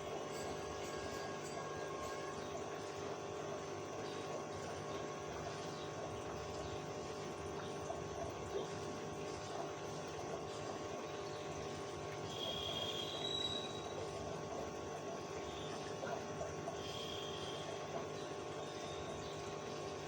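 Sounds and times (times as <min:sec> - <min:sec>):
aquarium pump humming: 0:00.0 - 0:20.0.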